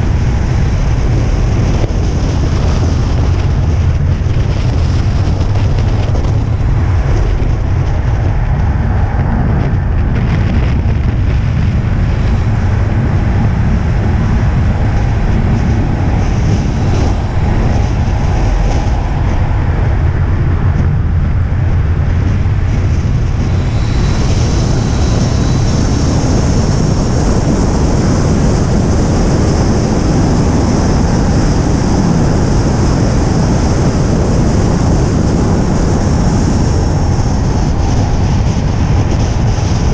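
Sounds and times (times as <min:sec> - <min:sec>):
car engine: 0:00.0 - 0:39.9.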